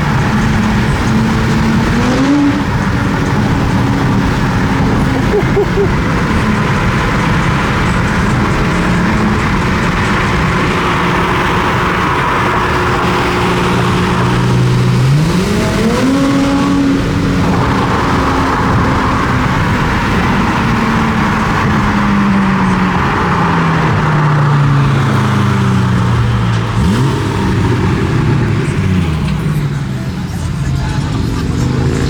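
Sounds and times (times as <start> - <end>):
car engine revving: 0.0 - 32.0
traffic noise: 0.0 - 32.0.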